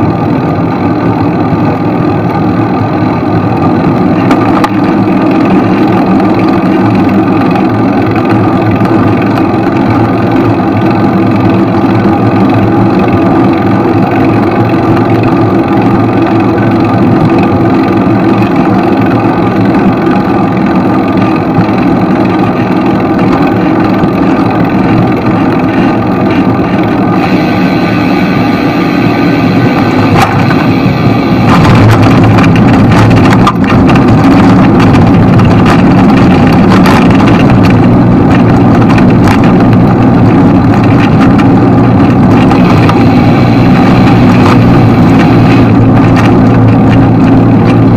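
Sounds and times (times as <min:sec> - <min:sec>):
vehicle engine drone: 0:00.0 - 0:47.9.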